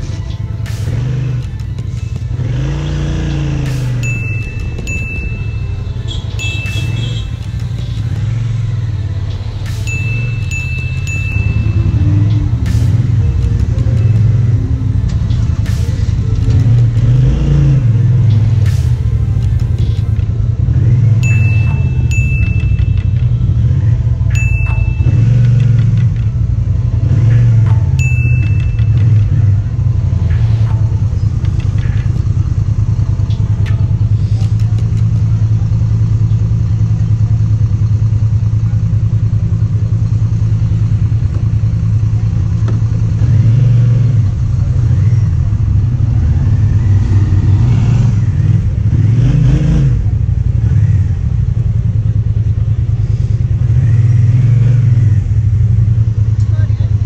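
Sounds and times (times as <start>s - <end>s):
scooter engine droning: 0.0s - 56.6s.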